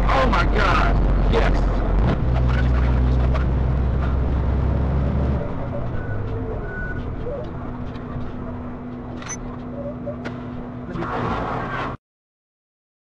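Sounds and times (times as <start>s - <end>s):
truck diesel engine droning: 0.0s - 11.9s
road noise: 0.0s - 12.0s.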